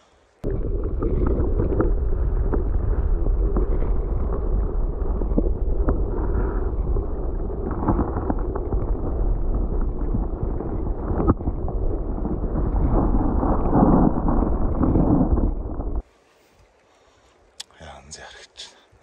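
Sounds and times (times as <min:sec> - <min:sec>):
wind buffeting microphone: 0:00.4 - 0:16.0.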